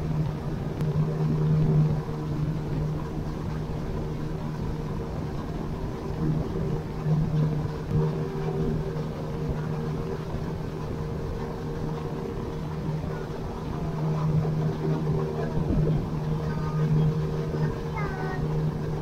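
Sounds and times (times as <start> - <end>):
boat motor droning: 0.0 - 19.0.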